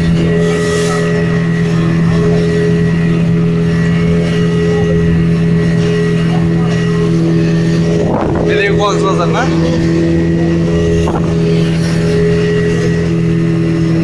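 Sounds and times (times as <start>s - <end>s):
speedboat engine droning: 0.0s - 14.0s.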